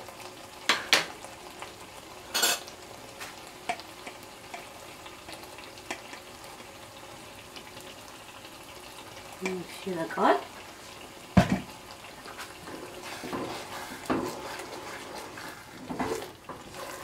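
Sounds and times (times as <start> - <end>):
stew sizzling in pot: 0.0 - 17.0.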